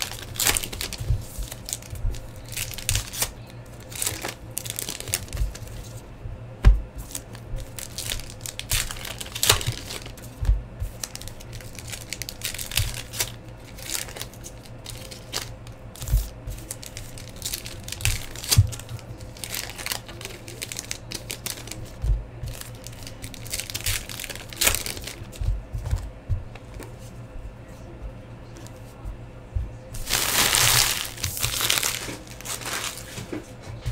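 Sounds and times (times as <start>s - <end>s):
plastic wrapping crinkling and tearing: 0.0s - 6.0s, 7.1s - 10.4s, 11.0s - 26.0s, 30.0s - 33.3s.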